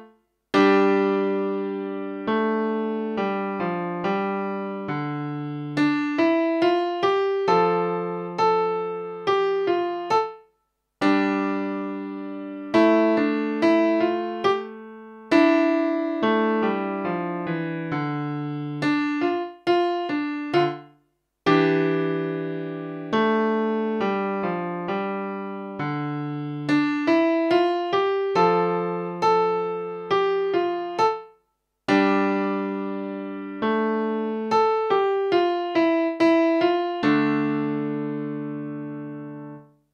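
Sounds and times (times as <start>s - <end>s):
digital piano playing: 0.0s - 39.8s.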